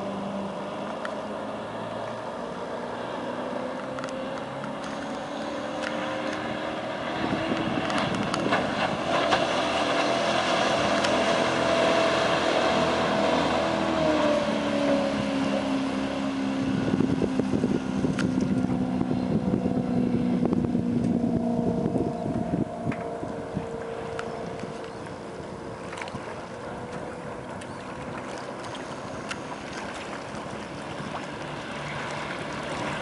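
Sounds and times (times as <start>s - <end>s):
boat engine running: 0.0s - 33.0s
water rushing: 0.0s - 33.0s
wind: 0.0s - 33.0s.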